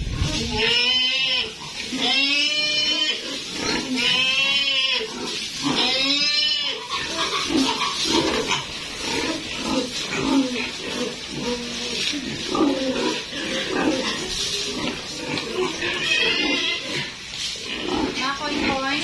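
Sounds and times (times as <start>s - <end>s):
pig grunting: 0.0s - 19.0s
pig squealing: 0.2s - 19.0s.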